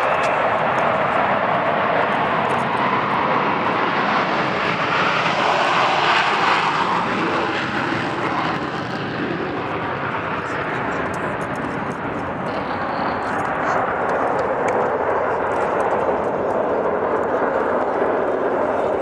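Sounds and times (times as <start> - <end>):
jets roaring past: 0.0 - 19.0.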